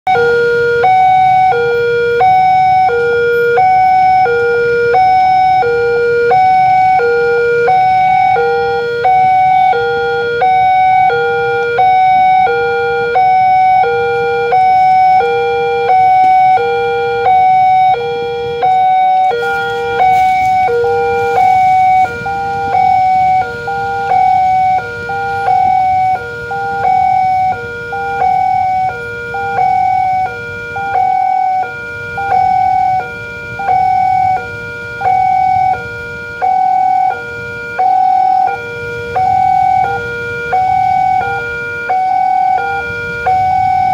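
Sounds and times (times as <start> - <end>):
level crossing two-tone alarm: 0.1 - 43.9.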